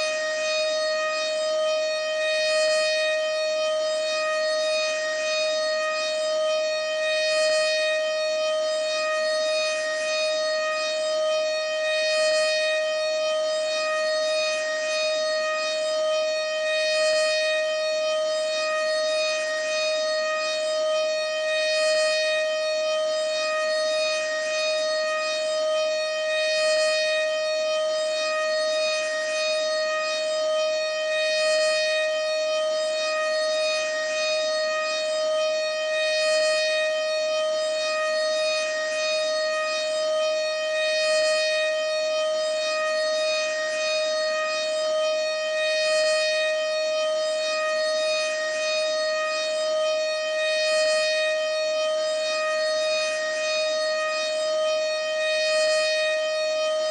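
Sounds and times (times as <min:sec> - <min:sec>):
siren steady tone: 0:00.0 - 0:56.9.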